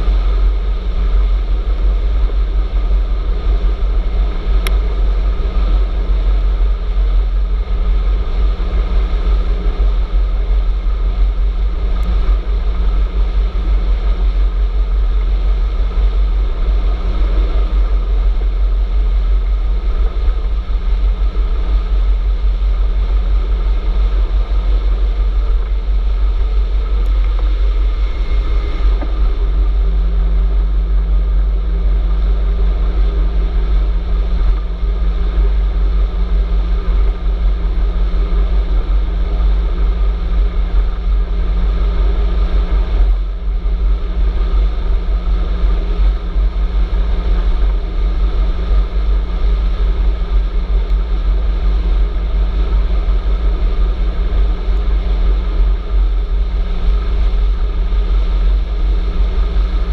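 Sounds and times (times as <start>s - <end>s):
low hum: 0.0s - 59.9s
wind rumble on microphone: 0.0s - 59.9s.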